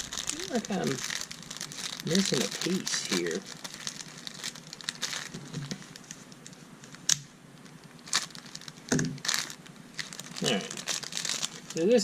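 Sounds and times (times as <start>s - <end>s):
packaging crinkling: 0.0s - 12.0s
packaging rustling: 0.0s - 12.0s.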